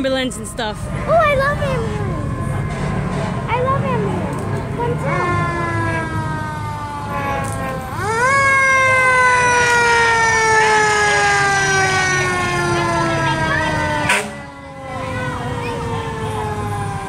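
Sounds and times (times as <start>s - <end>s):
emergency vehicle siren: 0.0s - 17.0s.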